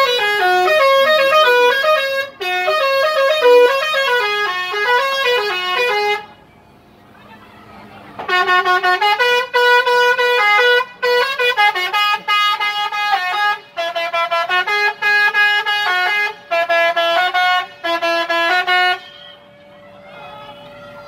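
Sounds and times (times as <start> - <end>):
bus horn playing a melody: 0.0 - 6.4, 8.2 - 21.0.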